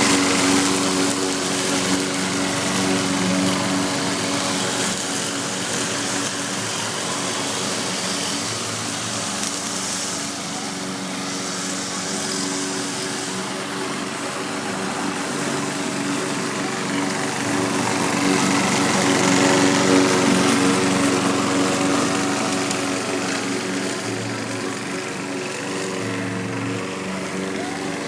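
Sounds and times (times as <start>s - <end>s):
lawn mower engine running: 0.0s - 28.0s.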